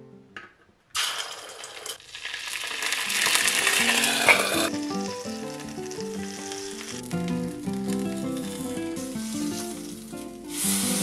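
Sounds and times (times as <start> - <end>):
egg sizzling in a skillet: 1.0 - 11.0.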